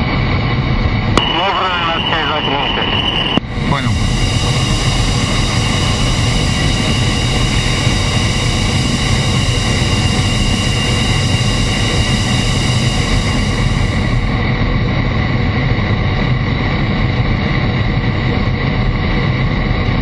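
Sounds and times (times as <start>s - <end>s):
low engine rumble: 0.0s - 19.3s
jet engines whining: 0.0s - 20.0s.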